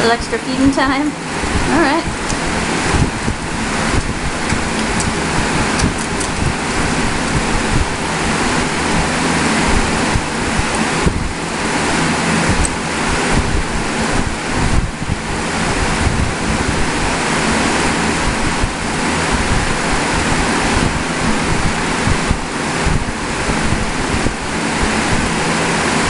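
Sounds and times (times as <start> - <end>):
wind buffeting microphone: 0.1 - 26.0.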